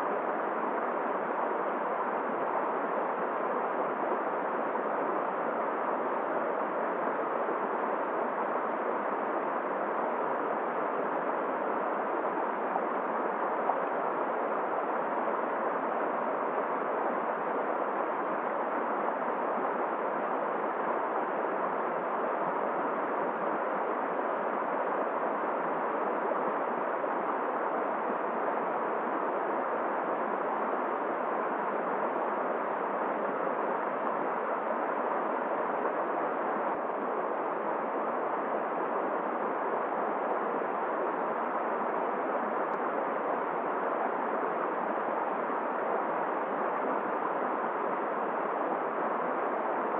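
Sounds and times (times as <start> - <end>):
blizzard wind: 0.0 - 49.9
flowing river: 0.0 - 49.9.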